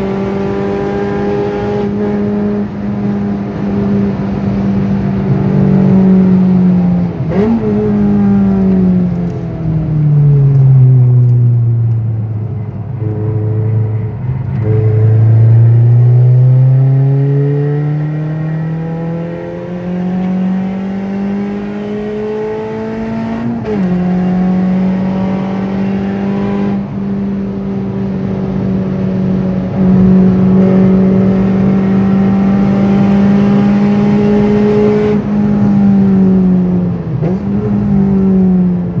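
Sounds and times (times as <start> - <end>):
car engine accelerating hard: 0.0 - 39.0.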